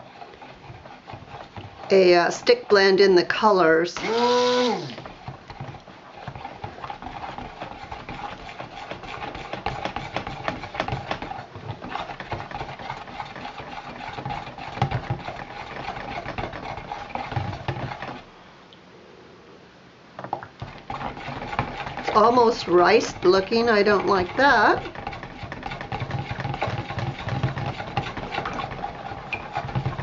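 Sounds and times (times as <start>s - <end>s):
stick blender motor hum: 0.0s - 18.3s, 20.6s - 30.0s.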